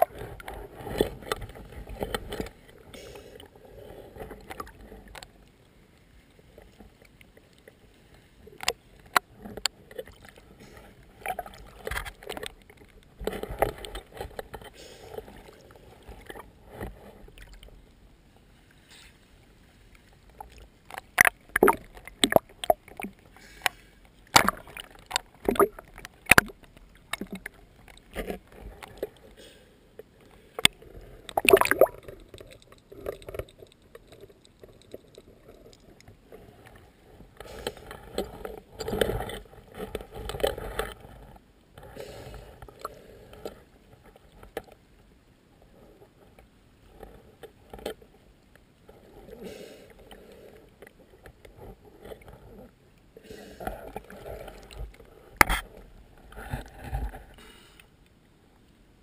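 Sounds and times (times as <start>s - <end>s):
water sloshing and lapping: 0.0s - 58.8s.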